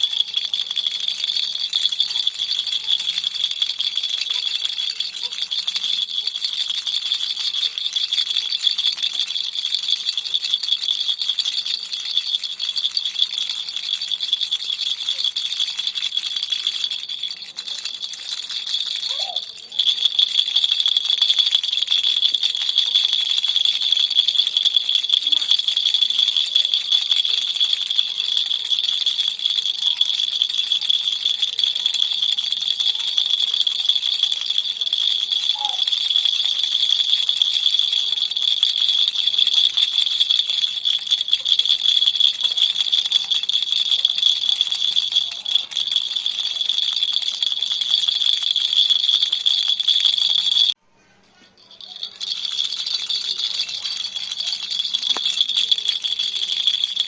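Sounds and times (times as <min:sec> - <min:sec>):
baby rattle shaken: 0:00.0 - 0:57.0.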